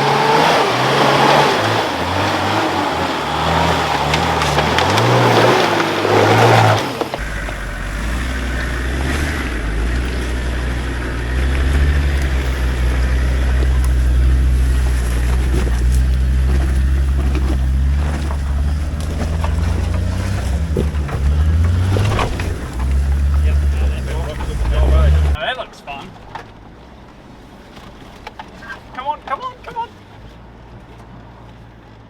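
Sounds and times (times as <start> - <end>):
off-road engine droning: 0.0 - 32.0.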